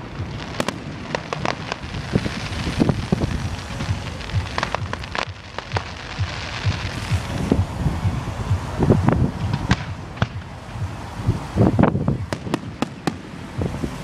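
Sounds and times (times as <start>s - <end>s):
fireworks sharp cracks: 0.0s - 14.0s.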